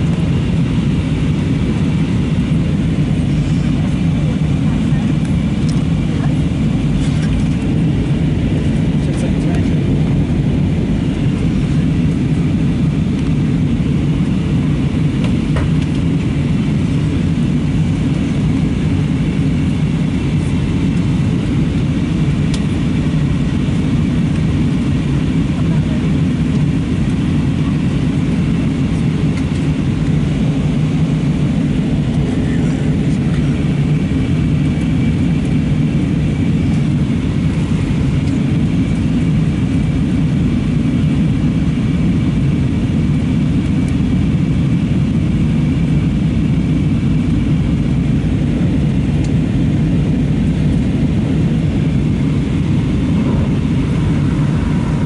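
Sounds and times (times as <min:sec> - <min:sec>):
airplane cabin roar: 0:00.0 - 0:55.0.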